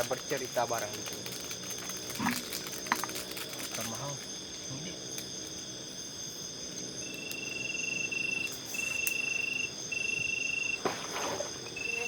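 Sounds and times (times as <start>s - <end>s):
insects and crickets trilling: 0.0s - 12.0s
louder insect trill: 0.0s - 12.0s.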